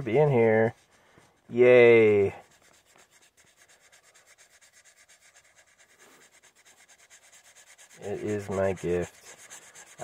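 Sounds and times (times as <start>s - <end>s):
marker scratching on paper: 0.0s - 10.0s.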